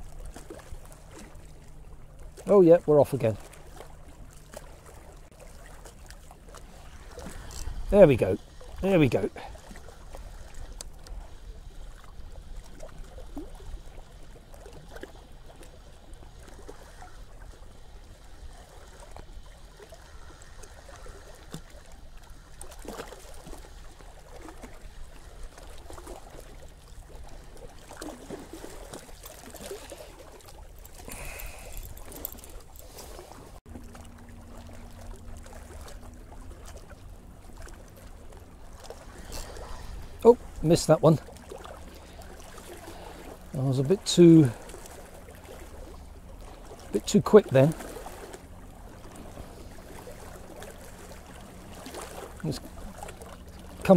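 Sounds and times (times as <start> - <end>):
small waves lapping on rocks: 0.0 - 53.9.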